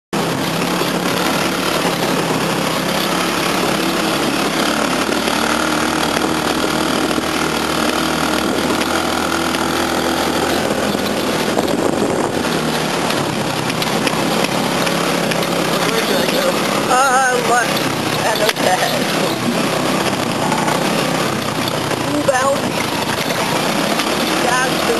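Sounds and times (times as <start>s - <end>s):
go-kart engine running: 0.2s - 24.9s.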